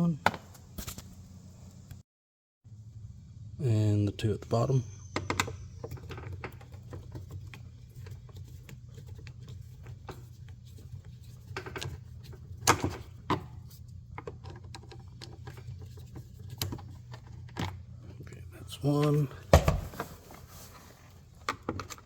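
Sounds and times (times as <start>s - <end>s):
steady low hum: 2.7s - 21.5s.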